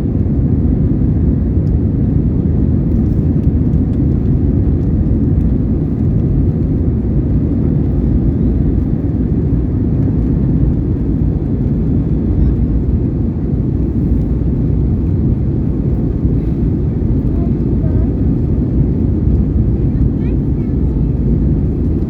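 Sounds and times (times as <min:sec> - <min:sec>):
airflow over fuselage: 0:00.0 - 0:22.0
jet engines rumbling: 0:00.0 - 0:22.0.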